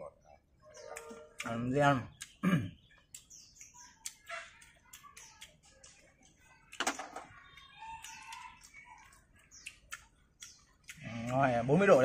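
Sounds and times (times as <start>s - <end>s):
chewing: 0.6s - 12.0s.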